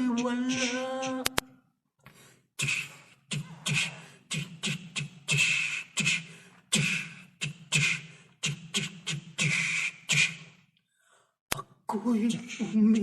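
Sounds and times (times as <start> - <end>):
vocal beatboxing: 0.0 - 1.4, 2.6 - 10.7, 11.5 - 13.0.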